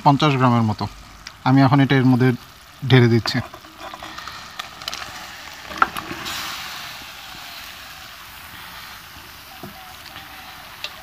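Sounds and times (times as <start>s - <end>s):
curry sizzling in a pot: 0.0s - 11.0s.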